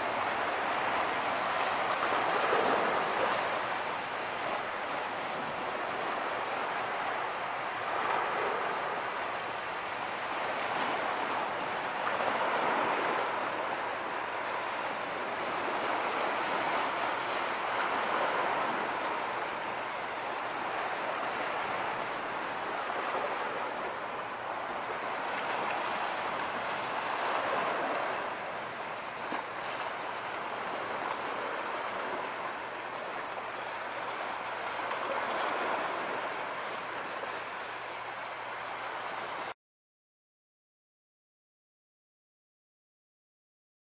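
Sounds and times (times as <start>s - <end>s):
small waves washing at shore: 0.0s - 39.6s.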